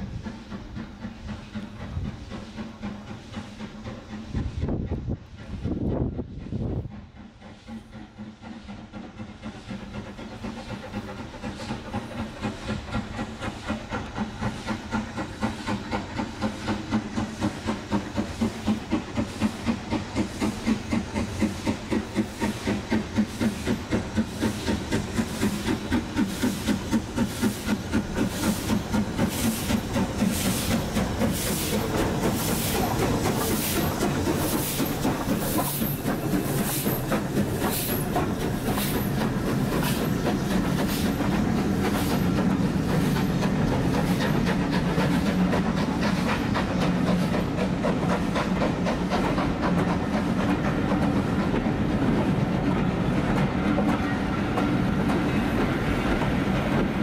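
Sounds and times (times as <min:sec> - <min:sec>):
rumble of train wheels: 0:00.0 - 0:57.0
steam locomotive exhaust chuffing: 0:00.0 - 0:57.0.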